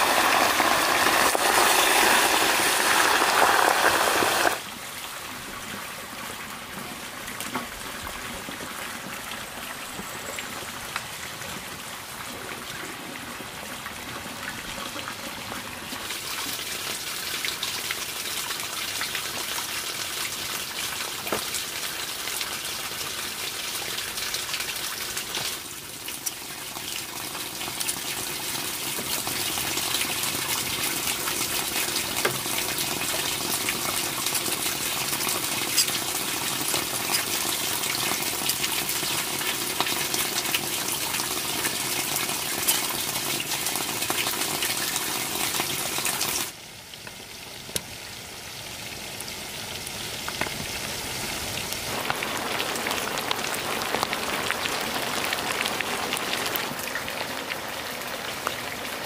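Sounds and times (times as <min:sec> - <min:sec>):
pork fat sizzling and crackling: 0:00.0 - 0:04.6, 0:15.9 - 0:59.0.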